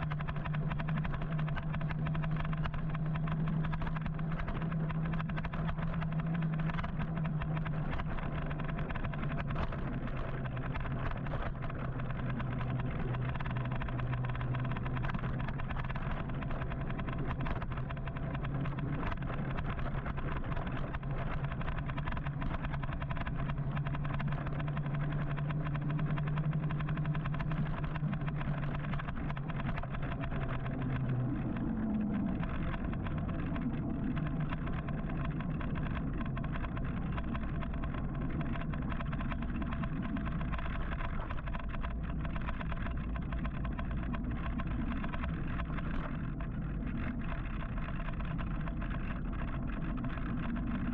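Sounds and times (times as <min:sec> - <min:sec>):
steady low hum: 0:00.0 - 0:50.9
vehicles running close by: 0:00.0 - 0:50.9.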